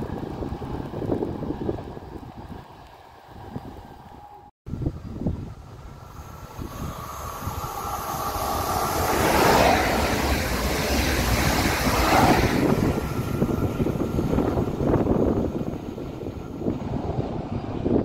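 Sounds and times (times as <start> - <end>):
passing train rumble and hiss: 0.0 - 18.0.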